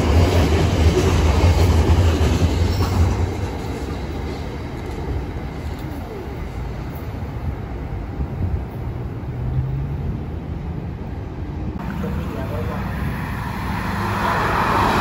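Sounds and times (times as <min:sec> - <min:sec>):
city traffic noise: 0:00.0 - 0:15.0
train rumbling: 0:00.0 - 0:15.0.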